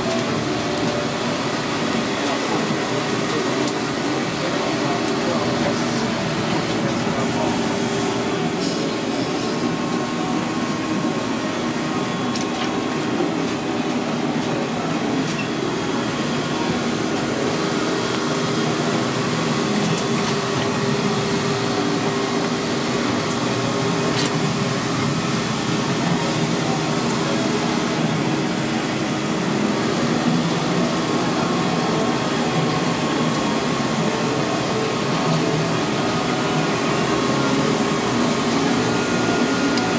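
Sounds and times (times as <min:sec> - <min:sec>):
kitchen machinery drone: 0:00.0 - 0:39.9.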